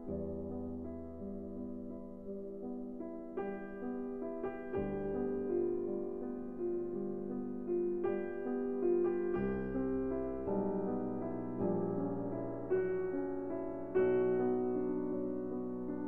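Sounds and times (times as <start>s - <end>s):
soft piano piece: 0.0s - 16.0s.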